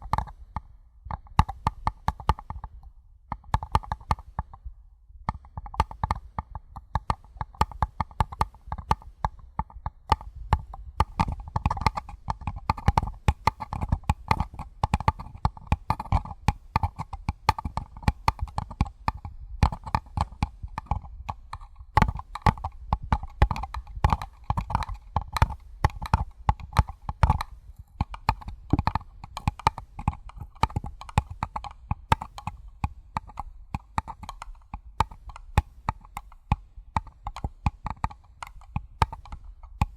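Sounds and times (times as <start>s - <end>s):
fingertips tapping on paper cup: 0.0s - 4.6s, 5.3s - 39.9s.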